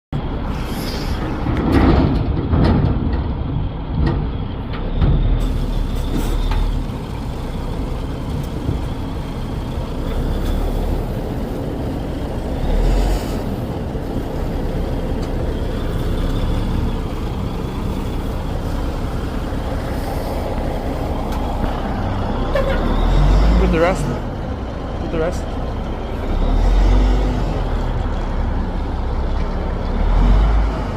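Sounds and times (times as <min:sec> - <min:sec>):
diesel truck engine running: 0:00.2 - 0:30.9.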